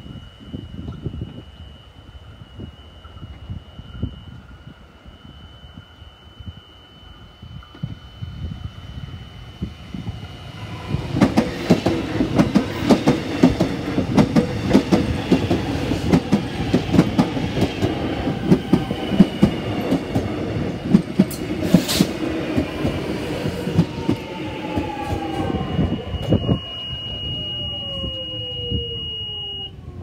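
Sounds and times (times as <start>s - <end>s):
electric train whine: 0.0s - 30.0s.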